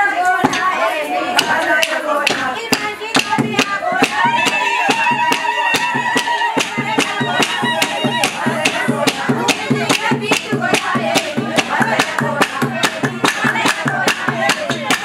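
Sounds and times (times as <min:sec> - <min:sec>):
group of women singing: 0:00.0 - 0:15.0
rhythmic handclapping: 0:00.0 - 0:15.0.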